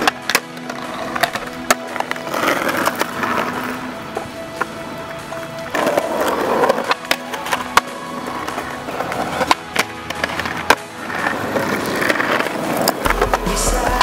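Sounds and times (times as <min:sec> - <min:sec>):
skateboard clacking on ground: 0:00.0 - 0:14.0
skateboard rolling on concrete: 0:00.0 - 0:14.0.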